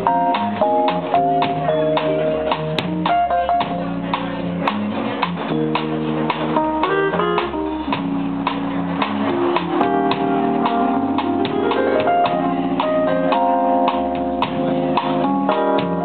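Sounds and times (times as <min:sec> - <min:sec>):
drum kit beat: 0:00.0 - 0:16.0
held keyboard notes: 0:00.0 - 0:16.0.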